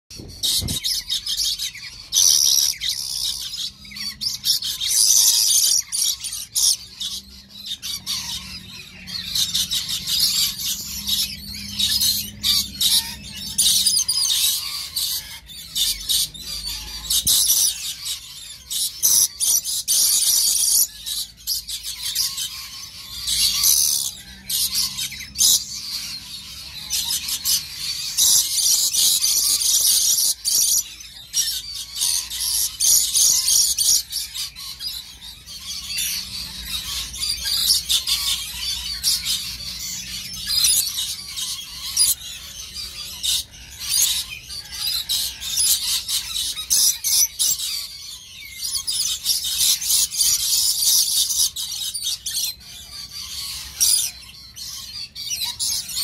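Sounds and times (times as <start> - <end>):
lorikeets chirping and squawking: 0.1 - 56.0.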